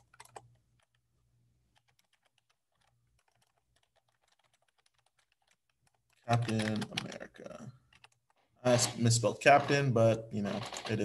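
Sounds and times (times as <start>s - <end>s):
keyboard typing: 0.0s - 11.0s.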